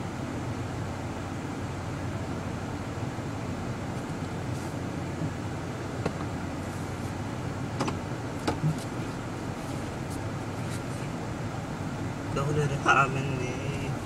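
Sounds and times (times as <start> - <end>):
car engine and road hum: 0.0 - 14.0.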